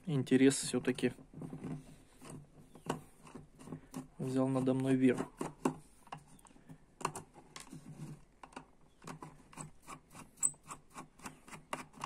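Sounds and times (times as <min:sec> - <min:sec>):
screwdriver scraping sealing mastic: 0:01.3 - 0:12.0.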